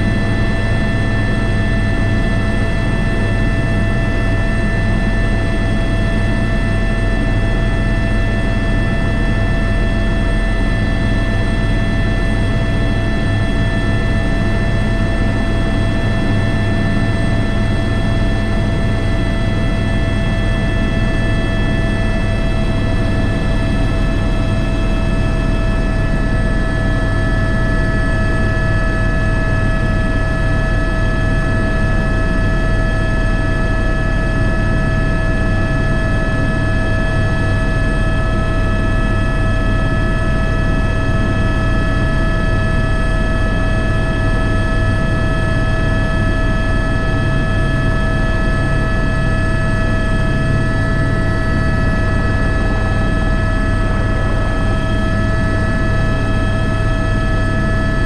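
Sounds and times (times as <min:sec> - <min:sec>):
helicopter rotor drone: 0:00.0 - 0:58.0
turbine high whines: 0:00.0 - 0:58.0.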